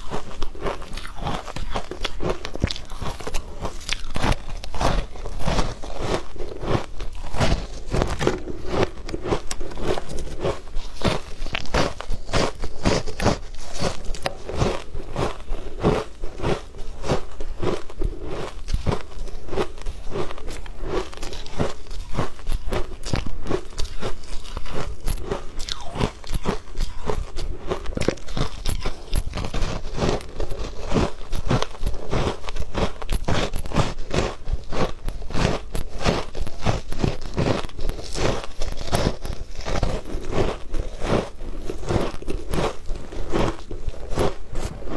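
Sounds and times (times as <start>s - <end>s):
crunching ice being chewed: 0.0s - 44.9s.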